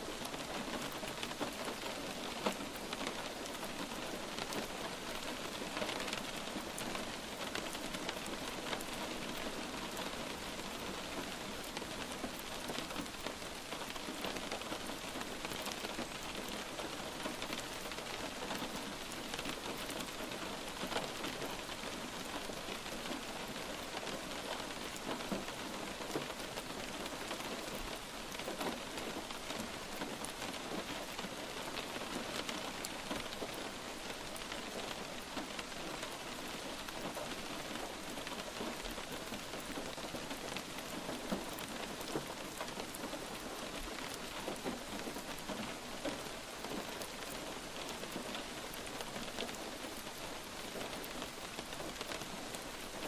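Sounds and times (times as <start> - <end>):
light rain hissing: 0.0 - 53.0
raindrop ticks: 0.2 - 53.0.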